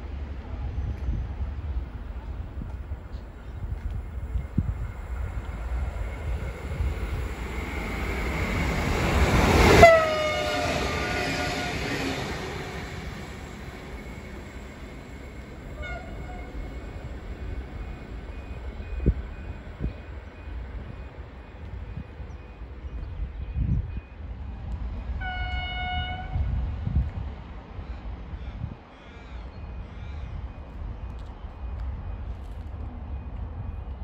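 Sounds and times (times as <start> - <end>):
diesel train rumbling: 0.0 - 34.0.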